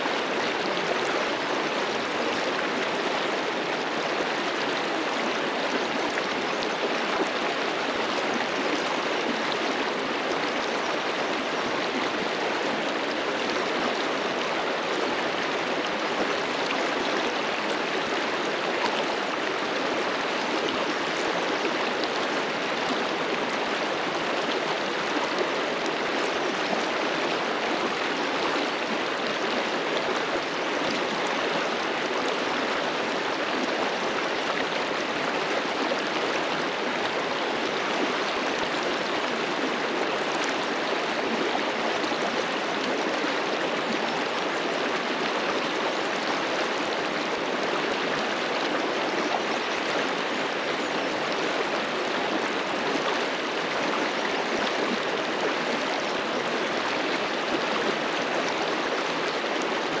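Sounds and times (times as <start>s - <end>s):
river rushing over rocks: 0.0s - 60.0s.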